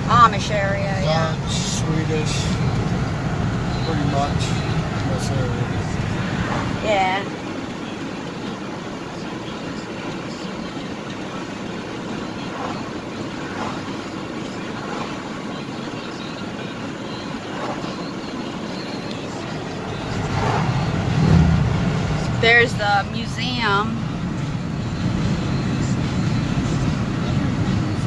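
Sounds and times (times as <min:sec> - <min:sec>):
road and engine noise in cabin: 0:00.0 - 0:28.0.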